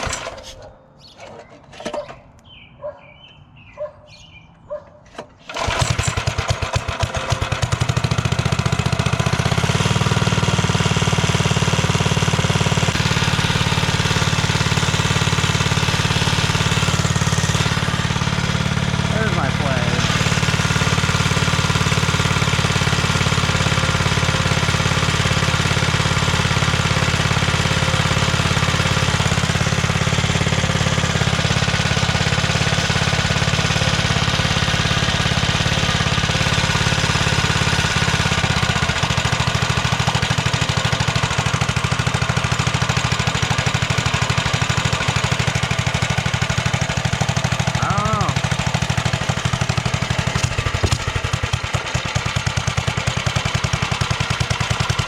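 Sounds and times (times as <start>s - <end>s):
small engine chugging: 5.4s - 55.0s.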